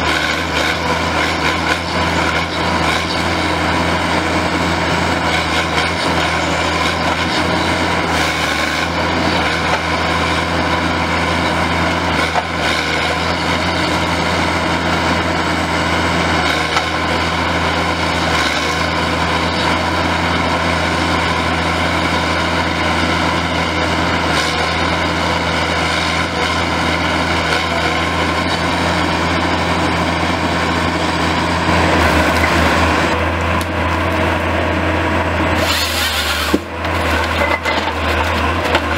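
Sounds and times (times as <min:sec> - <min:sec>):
diesel engine humming: 0:00.0 - 0:38.9.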